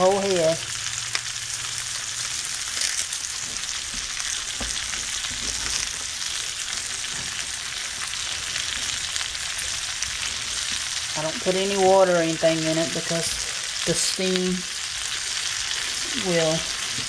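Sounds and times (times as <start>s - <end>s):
frying sizzle with pops: 0.0s - 17.0s.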